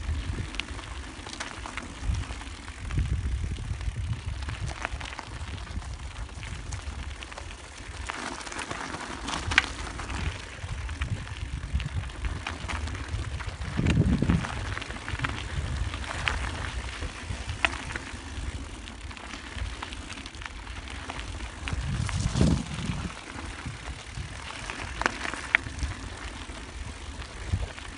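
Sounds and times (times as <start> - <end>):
handcycle rolling rumble: 0.0 - 27.9.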